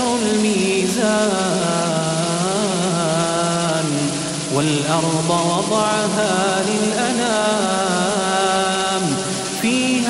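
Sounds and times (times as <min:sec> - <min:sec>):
man chanting melodically: 0:00.0 - 0:10.0
rain hiss: 0:00.0 - 0:10.0.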